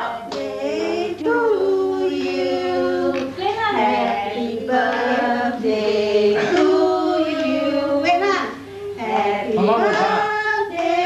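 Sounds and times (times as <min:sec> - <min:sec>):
children singing slow melody: 0:00.0 - 0:08.0, 0:08.6 - 0:11.0.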